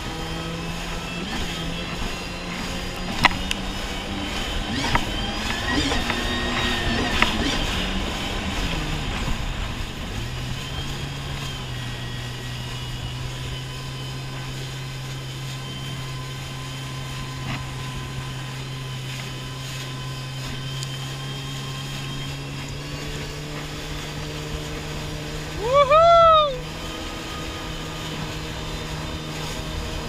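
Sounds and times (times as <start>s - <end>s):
jet ski engine: 0.0s - 30.0s
water washing under hull: 0.0s - 30.0s.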